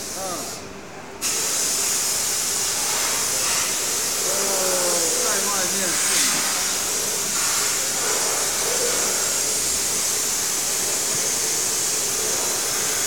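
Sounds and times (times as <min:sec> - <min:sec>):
machine hissing steadily: 0:00.0 - 0:13.0.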